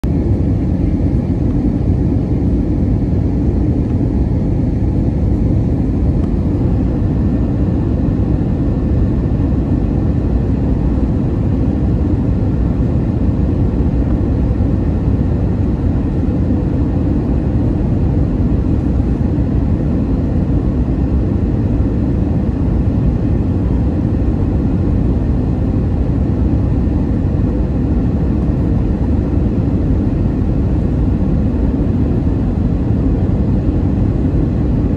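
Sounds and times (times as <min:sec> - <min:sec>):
jet engine drone in cabin: 0:00.0 - 0:34.9.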